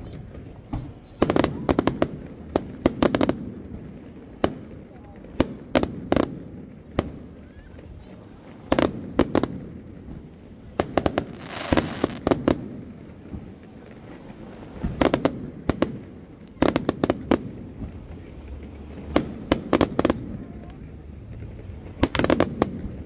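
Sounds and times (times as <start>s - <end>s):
aerial fireworks bursting: 0.0s - 23.0s.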